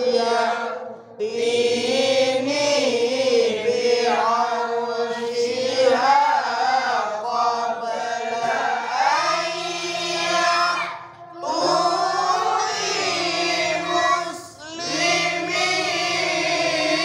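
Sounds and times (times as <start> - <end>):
melodic chanted recitation: 0.0 - 17.0.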